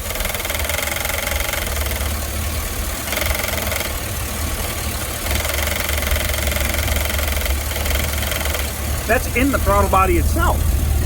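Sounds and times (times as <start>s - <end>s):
fast buzzing rattle: 0.0s - 9.4s
engine idling: 0.0s - 11.0s.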